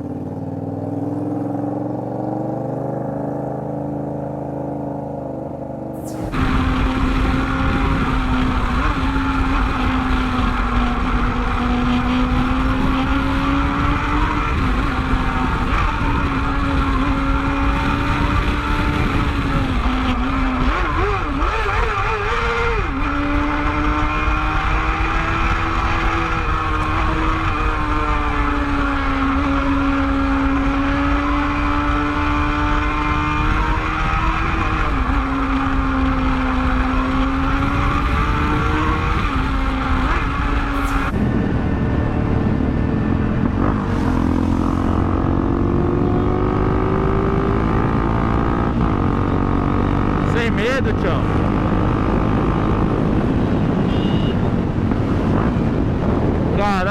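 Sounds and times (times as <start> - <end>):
motorcycle engine cruising: 0.0 - 56.9
wind and road rush: 0.0 - 56.9.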